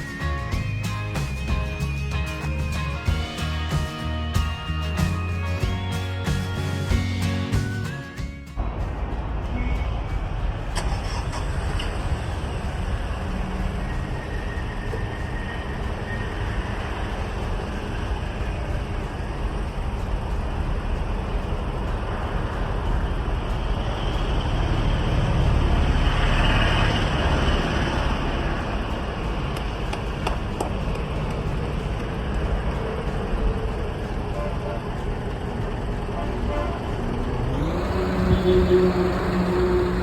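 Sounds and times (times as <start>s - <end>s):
car engine: 0.0s - 40.0s
traffic: 0.0s - 40.0s.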